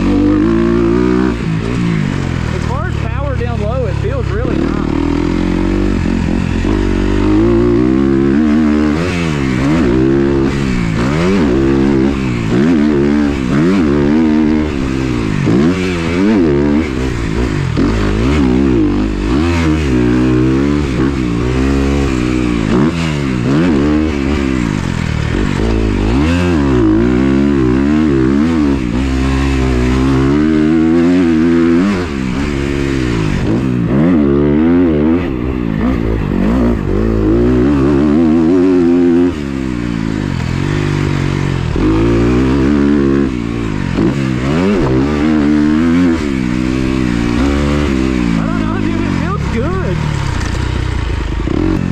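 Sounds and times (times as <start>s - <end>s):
dirt bike engine revving: 0.0s - 51.9s.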